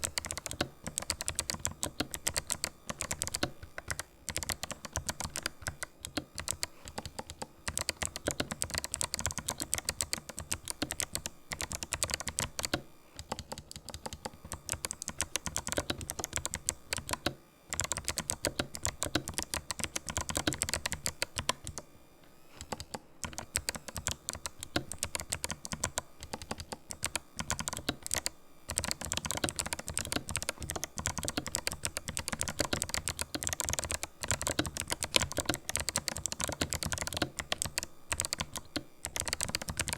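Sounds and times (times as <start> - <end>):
mechanical keyboard key clicks: 0.0 - 21.8, 22.6 - 39.9.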